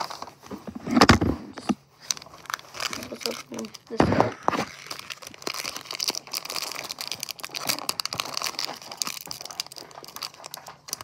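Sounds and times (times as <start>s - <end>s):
foil wrapper crinkling and tearing: 0.0s - 0.4s, 1.9s - 11.0s.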